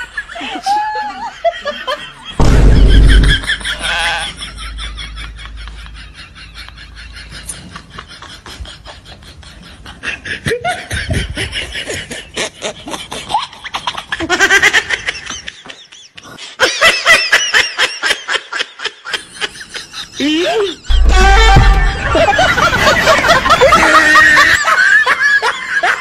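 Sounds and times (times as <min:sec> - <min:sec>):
people laughing: 0:00.0 - 0:26.0.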